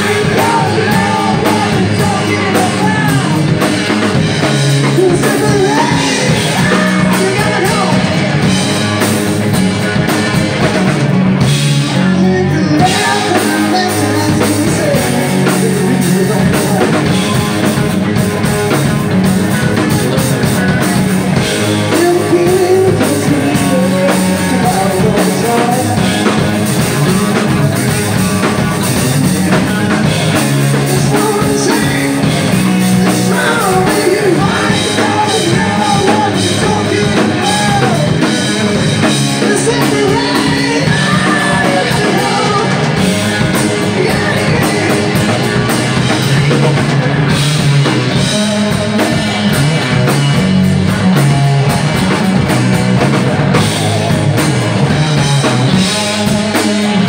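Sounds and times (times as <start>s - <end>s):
lead vocal singing: 0.0s - 9.0s, 11.4s - 18.0s, 21.8s - 50.1s, 54.7s - 57.0s
drum kit: 0.0s - 57.0s
electric guitar: 0.0s - 57.0s.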